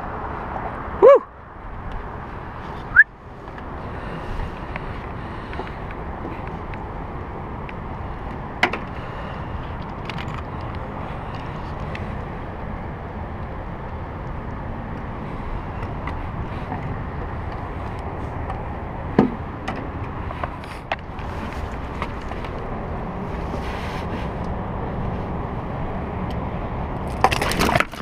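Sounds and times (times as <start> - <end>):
wind and water rumble: 0.0 - 28.0.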